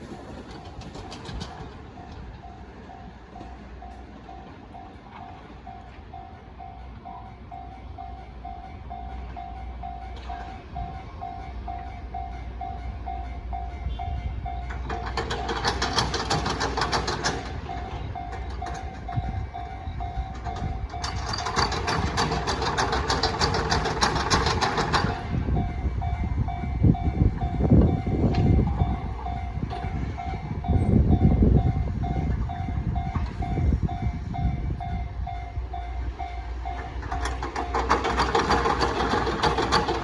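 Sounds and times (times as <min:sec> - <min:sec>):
train wheels clattering: 0:00.0 - 0:07.2, 0:08.5 - 0:40.0
train rumbling over crossing: 0:00.0 - 0:40.0.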